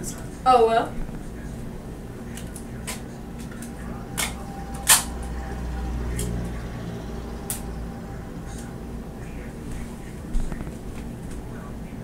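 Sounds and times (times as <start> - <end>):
low rumble: 0.9 - 11.6.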